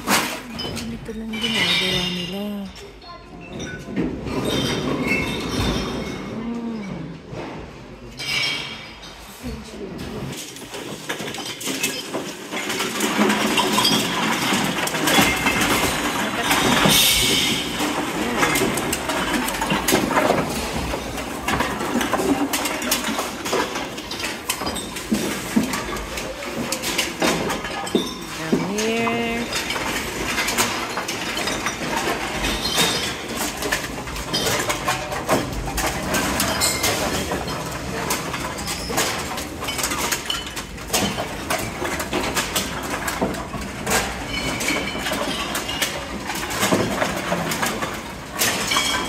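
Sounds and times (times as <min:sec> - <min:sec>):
cans and bottles clattering: 0:00.0 - 0:06.5, 0:07.2 - 0:09.3, 0:10.0 - 0:49.0.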